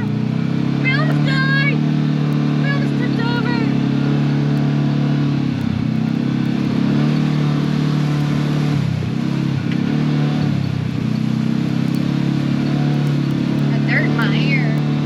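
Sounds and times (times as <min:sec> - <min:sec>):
utility vehicle engine droning: 0:00.0 - 0:15.0.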